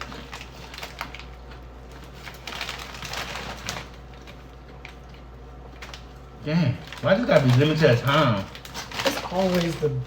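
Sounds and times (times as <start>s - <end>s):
chips being chewed: 0.0s - 10.0s.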